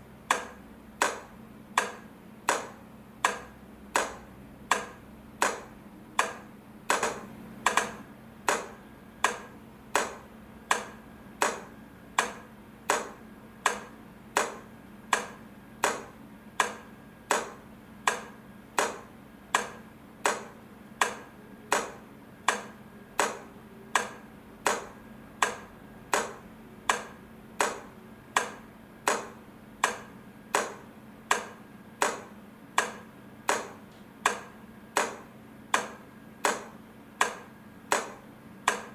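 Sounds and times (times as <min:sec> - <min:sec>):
crossing light flasher clicking: 0:00.3 - 0:23.4, 0:24.0 - 0:38.9.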